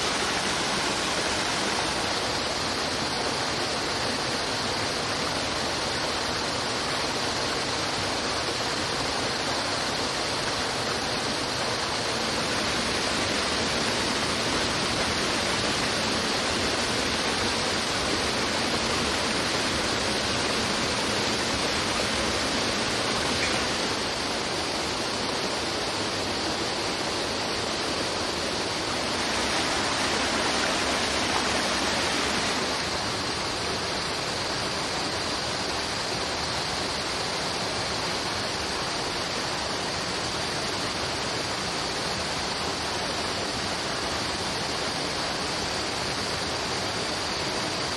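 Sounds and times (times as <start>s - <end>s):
stream water rushing over rocks: 0.0s - 47.9s.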